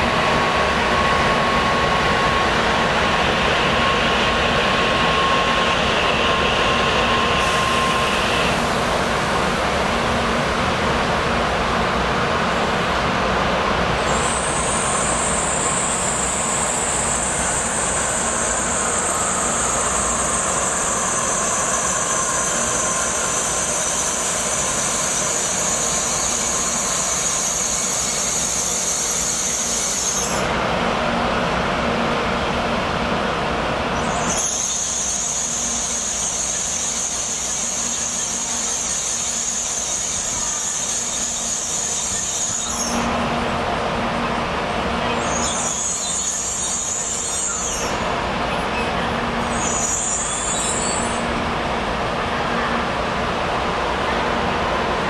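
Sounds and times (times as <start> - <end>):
high-speed train running: 0.0 - 55.0.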